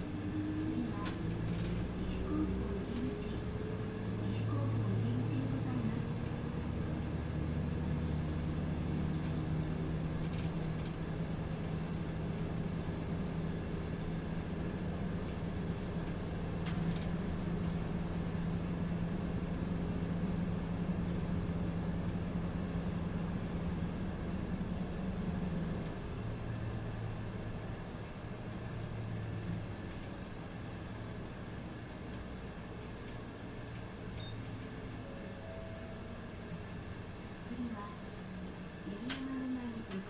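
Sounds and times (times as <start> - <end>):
bus engine: 0.0 - 40.0
road noise: 0.0 - 40.0.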